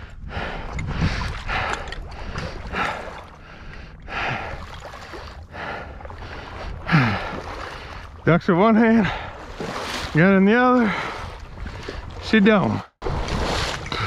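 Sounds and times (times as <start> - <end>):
water sloshing with wading steps: 0.0 - 14.0.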